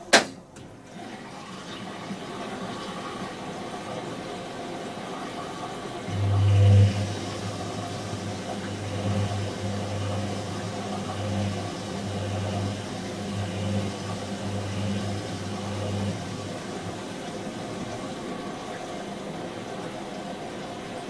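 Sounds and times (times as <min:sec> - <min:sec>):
washing machine electrical hum: 0:00.0 - 0:21.0.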